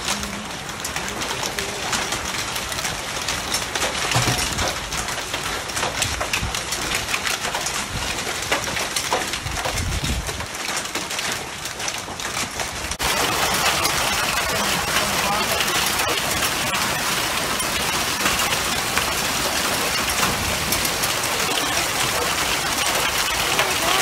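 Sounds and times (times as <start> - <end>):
heavy downpour: 0.0 - 24.0
rain pattering on concrete: 0.0 - 24.0.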